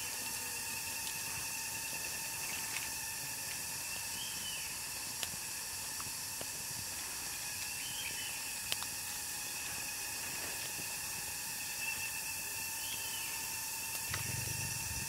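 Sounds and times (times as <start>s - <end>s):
eggs frying on hot stone: 0.0s - 15.0s.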